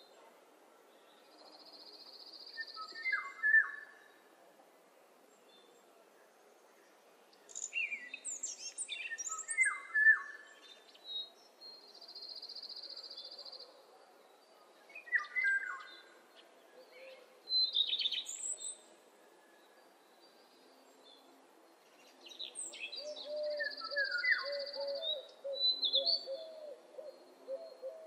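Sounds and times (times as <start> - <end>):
faint background noise: 0.0 - 28.0.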